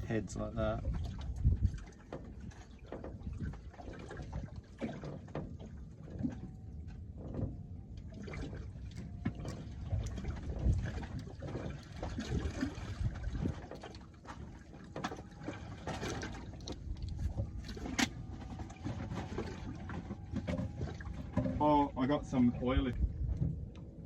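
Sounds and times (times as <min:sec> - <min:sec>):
water lapping against boat hull: 0:00.0 - 0:24.0.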